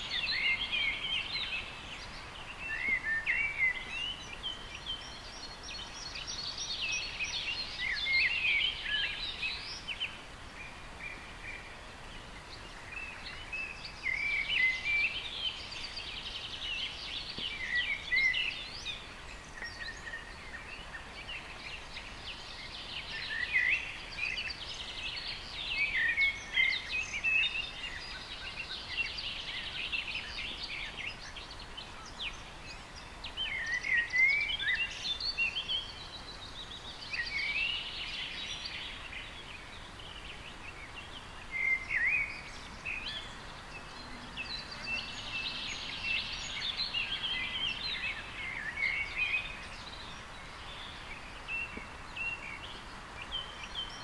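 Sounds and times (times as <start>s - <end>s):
songbirds chirping and trilling: 0.0s - 54.0s
steady outdoor hiss: 0.0s - 54.0s.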